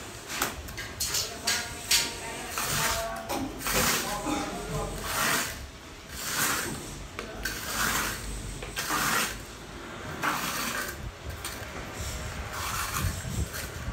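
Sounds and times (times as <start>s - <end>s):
trowel scraping mortar: 0.4s - 13.9s.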